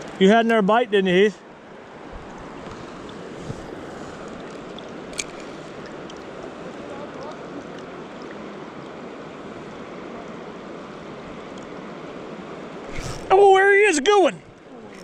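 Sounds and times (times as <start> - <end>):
river water flowing over rocks: 1.4 - 15.0.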